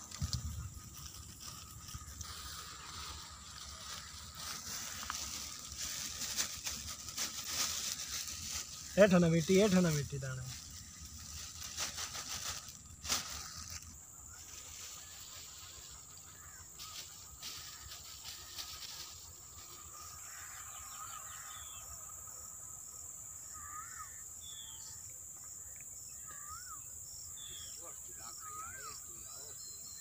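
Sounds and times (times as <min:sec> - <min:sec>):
faint regular chirping: 0:00.0 - 0:30.0
insects droning: 0:00.0 - 0:30.0.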